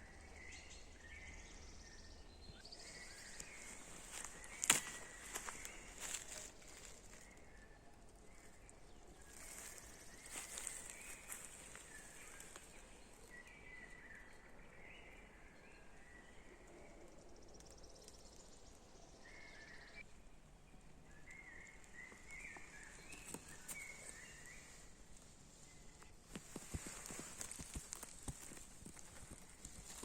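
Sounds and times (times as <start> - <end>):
songbirds warbling: 0.0 - 16.6, 21.0 - 30.0.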